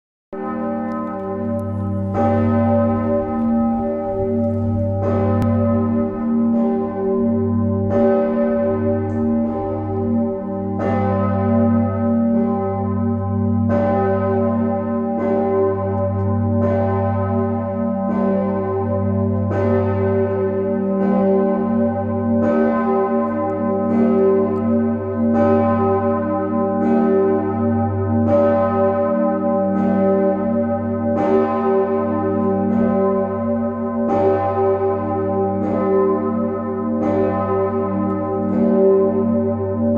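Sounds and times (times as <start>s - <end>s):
church bell ringing: 0.4s - 39.9s.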